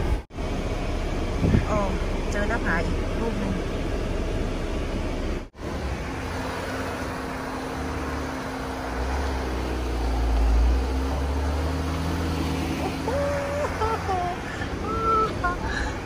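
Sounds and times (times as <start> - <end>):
engine working under load: 0.0 - 16.0.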